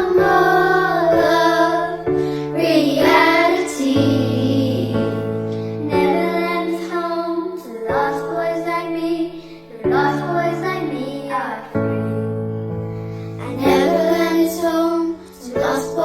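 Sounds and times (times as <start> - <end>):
girls singing a slow ballad: 0.0 - 16.0.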